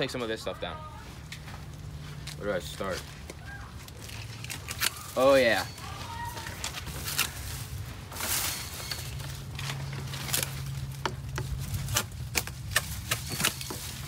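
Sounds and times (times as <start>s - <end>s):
leaves and twigs rustling: 0.0s - 14.0s
loppers snipping branches: 2.2s - 14.0s.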